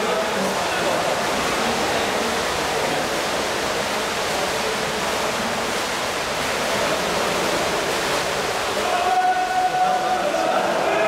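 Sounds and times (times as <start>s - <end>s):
water splashing in a pool: 0.0s - 11.0s.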